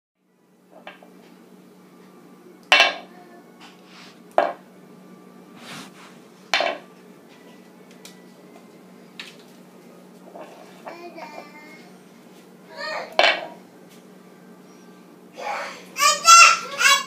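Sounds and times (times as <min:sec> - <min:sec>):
steady low hum: 0:00.2 - 0:17.0.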